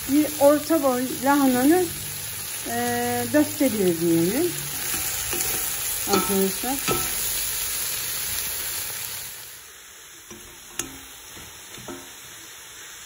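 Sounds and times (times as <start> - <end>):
cabbage sizzling in a pot: 0.0 - 13.0.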